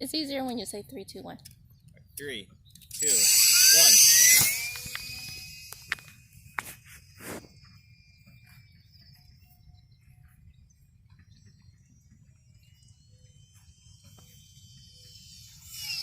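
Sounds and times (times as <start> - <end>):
faint bird chirps: 0.5 - 16.0.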